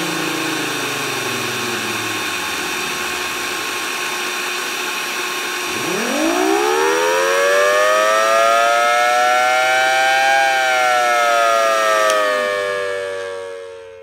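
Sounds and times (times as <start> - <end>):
siren wailing: 0.0 - 3.8, 5.6 - 14.0.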